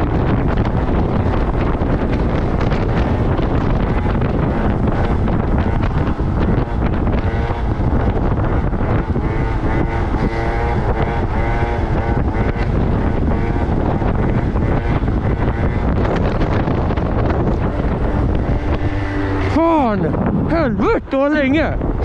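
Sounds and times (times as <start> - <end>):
moped engine revving: 0.0 - 22.0
wind buffeting microphone: 0.0 - 22.0.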